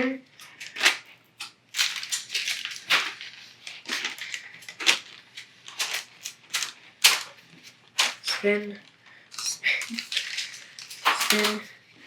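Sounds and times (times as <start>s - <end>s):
plastic packaging crackling: 0.4s - 11.8s.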